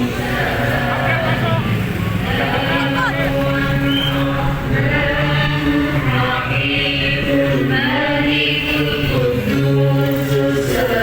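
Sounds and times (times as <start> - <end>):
congregation chanting devotional verses: 0.0 - 11.0.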